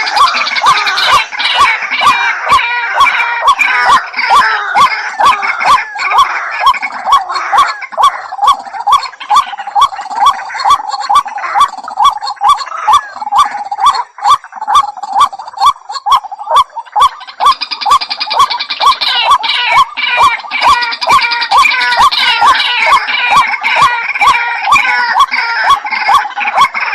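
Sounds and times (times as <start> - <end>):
waterhen calling: 0.0 - 26.9.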